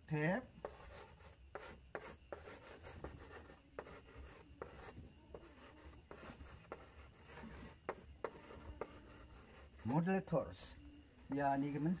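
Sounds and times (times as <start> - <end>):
chalk scratching on blackboard: 0.4 - 12.0
chalk tapping on blackboard: 0.5 - 10.1, 11.2 - 12.0.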